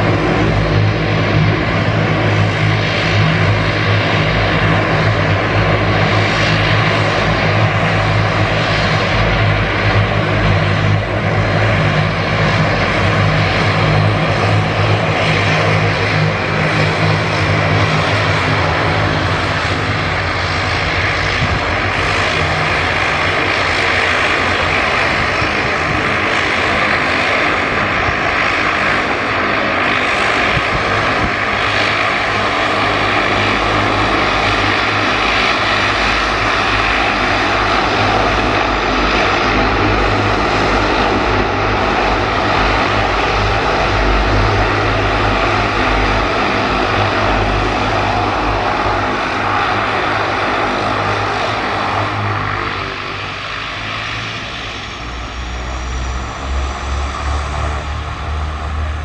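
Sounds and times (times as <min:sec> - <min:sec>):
propeller aircraft engines droning: 0:00.0 - 0:59.0.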